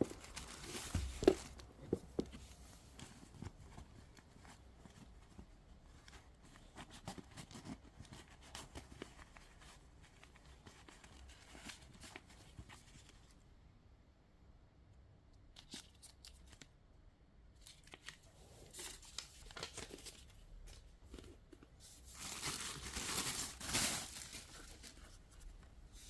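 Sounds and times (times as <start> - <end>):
cardboard and plastic rustling: 0.0 - 13.2, 17.7 - 26.0.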